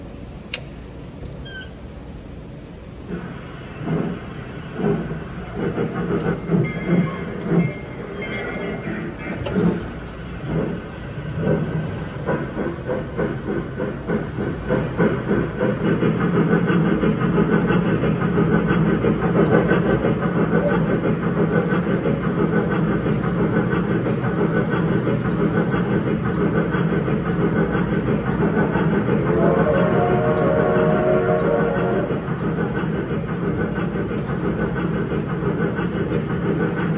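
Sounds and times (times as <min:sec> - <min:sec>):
steam locomotive chugging effect: 0:01.9 - 0:36.9.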